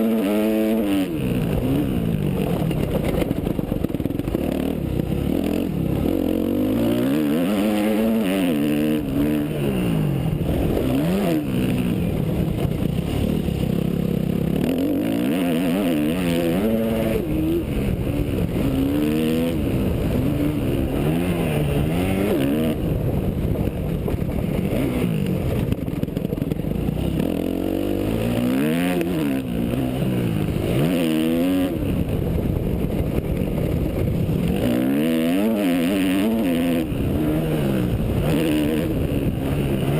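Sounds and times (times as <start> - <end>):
motocross bike engine revving: 0.0 - 23.0, 24.1 - 39.9
steady rush of noise: 0.0 - 39.9.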